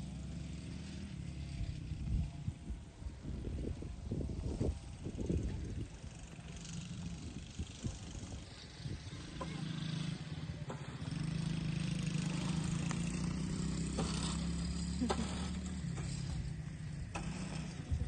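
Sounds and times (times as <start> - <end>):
small atv engine running: 0.0 - 18.0.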